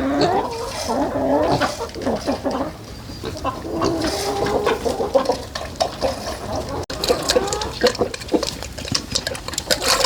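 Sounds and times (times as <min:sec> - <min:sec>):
farm animals calling: 0:00.0 - 0:10.0.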